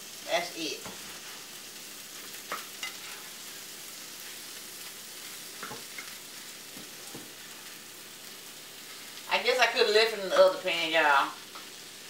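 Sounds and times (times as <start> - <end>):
eggs sizzling in a skillet: 0.0 - 12.0.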